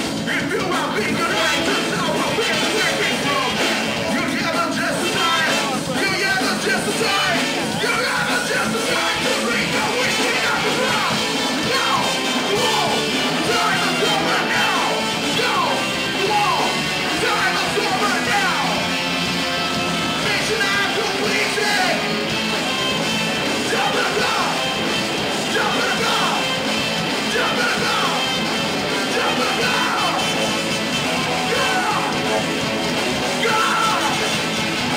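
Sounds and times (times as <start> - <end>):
bass guitar: 0.0 - 34.9
drums: 0.0 - 34.9
electric guitars: 0.0 - 34.9
person singing: 0.2 - 18.9, 19.8 - 22.5, 23.4 - 32.5, 33.2 - 34.9.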